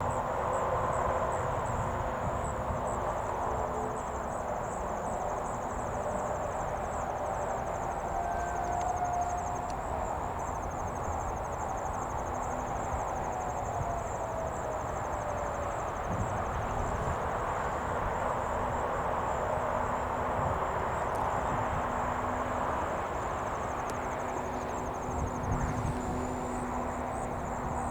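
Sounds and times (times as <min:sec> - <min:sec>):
insects trilling: 0:00.1 - 0:27.9.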